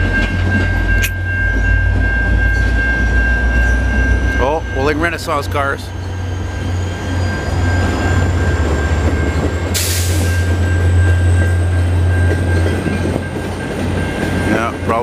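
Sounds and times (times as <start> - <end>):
steady high tone: 0.0 - 15.0
train passing with rumble: 0.0 - 15.0.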